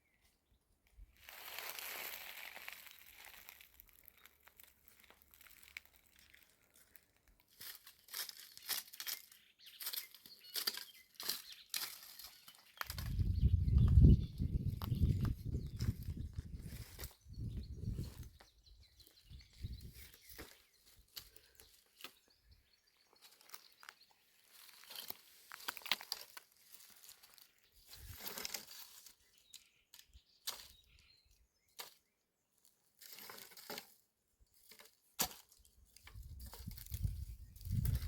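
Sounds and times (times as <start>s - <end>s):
rustling and crinkling: 1.2s - 18.6s, 23.0s - 30.8s, 32.7s - 38.0s.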